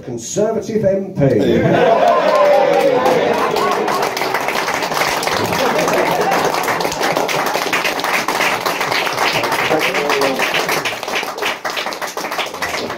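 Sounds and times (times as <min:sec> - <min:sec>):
small audience clapping: 0:01.7 - 0:12.9.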